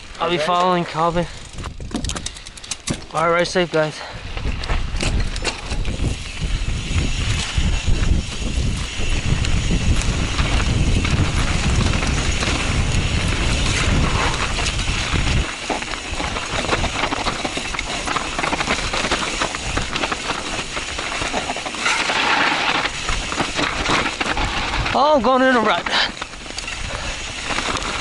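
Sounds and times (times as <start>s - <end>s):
bike rattling over bumps: 0.0s - 28.0s
tyres crunching over stones: 0.0s - 28.0s
wind rumble on microphone: 1.1s - 3.1s, 4.0s - 28.0s.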